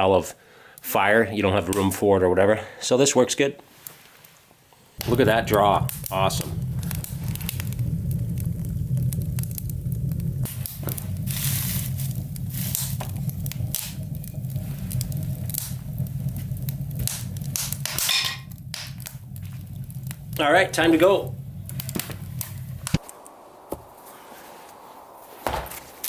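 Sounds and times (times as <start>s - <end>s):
kindling crackling: 0.2s - 26.0s
wood stove rumbling: 4.9s - 26.0s.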